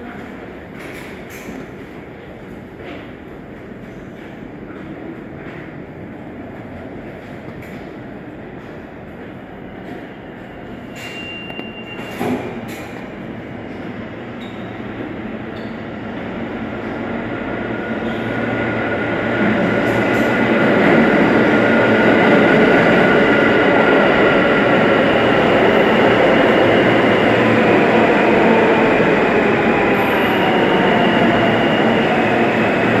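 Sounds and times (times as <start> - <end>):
high train whine: 0.0 - 33.0
train rumbling on rails: 0.0 - 33.0.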